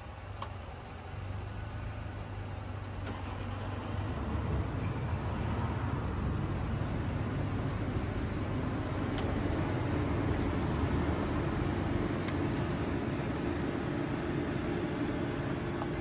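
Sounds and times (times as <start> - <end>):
motor vehicle rumble: 0.0 - 16.0.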